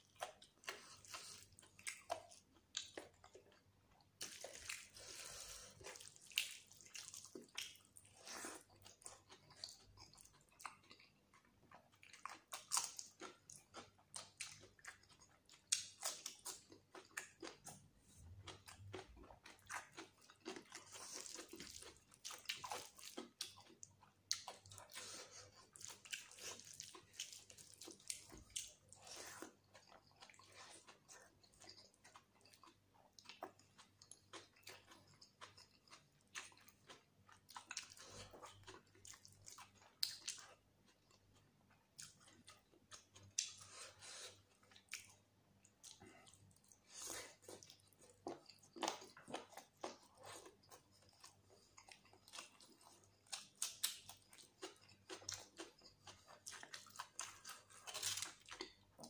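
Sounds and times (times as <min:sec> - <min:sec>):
chewing and lip-smacking: 0:00.0 - 0:59.0
wet squishing of food: 0:00.0 - 0:59.0.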